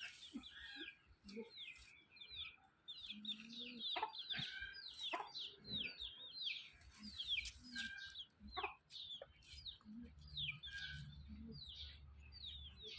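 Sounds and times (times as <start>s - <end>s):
chicks peeping: 0.0s - 12.9s.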